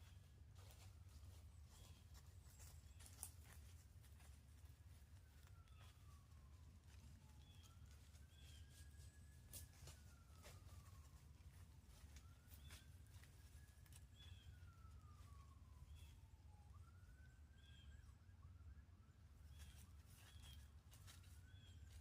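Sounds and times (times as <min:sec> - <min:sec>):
distant siren wailing: 0:00.0 - 0:22.0.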